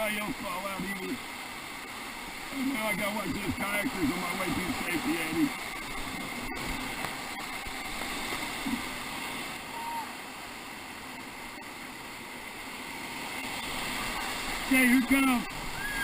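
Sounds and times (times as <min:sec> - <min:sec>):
whitewater river rushing: 0:00.0 - 0:16.0.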